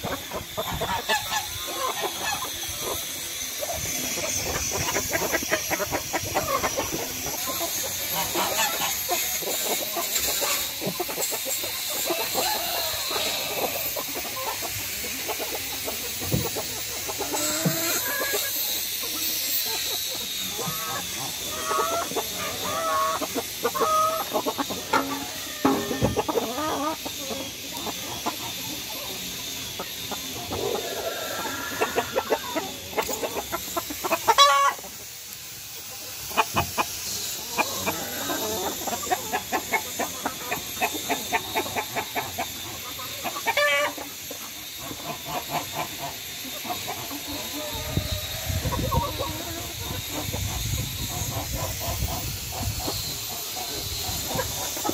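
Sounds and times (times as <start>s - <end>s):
hens clucking: 0.0s - 54.9s.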